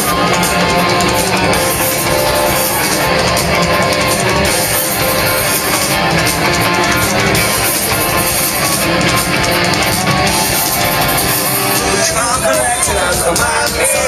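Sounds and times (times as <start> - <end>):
live rock band instrumental: 0.0 - 14.0.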